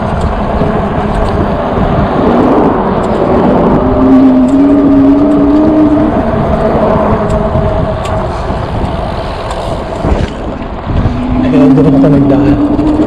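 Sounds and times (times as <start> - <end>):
wind and road rush: 0.0 - 13.0.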